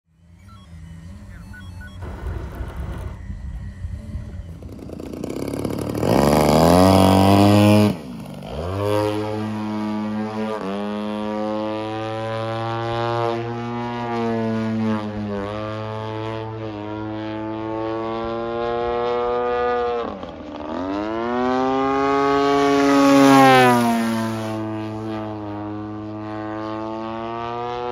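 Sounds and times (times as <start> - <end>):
model plane engine revving: 0.1 - 27.9
propeller plane flying overhead: 0.1 - 27.9.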